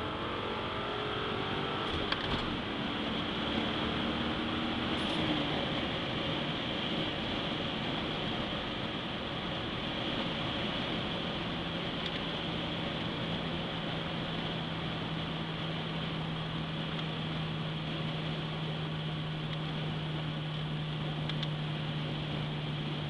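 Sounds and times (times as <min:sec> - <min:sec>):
car engine droning: 0:00.0 - 0:23.0
road and wind noise: 0:00.0 - 0:23.0.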